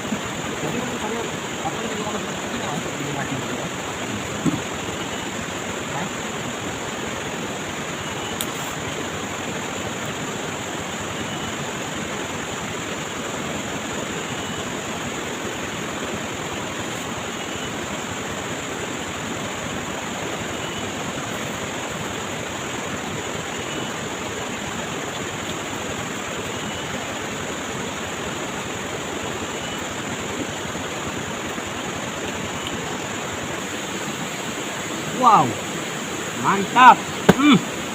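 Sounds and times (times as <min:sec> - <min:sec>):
high hiss: 0:00.0 - 0:37.9
stream water flowing: 0:00.0 - 0:37.9.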